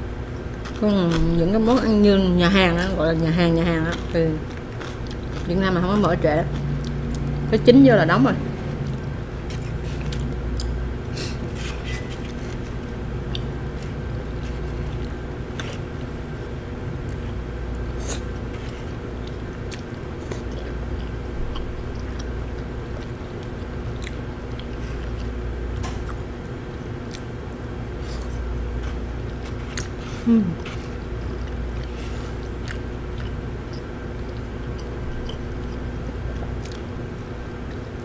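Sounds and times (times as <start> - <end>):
steady room hum: 0.0 - 38.0
person chewing: 3.7 - 7.5, 8.6 - 38.0.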